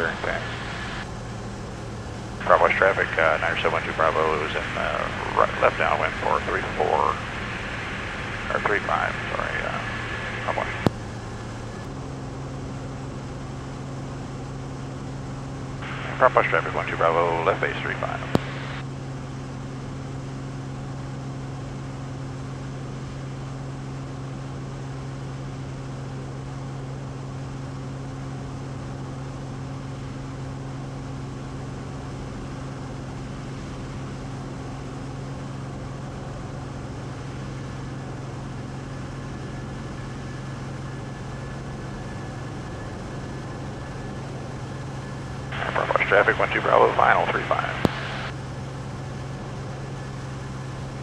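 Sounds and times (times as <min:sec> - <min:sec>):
propeller plane engine droning: 0:00.0 - 0:51.0.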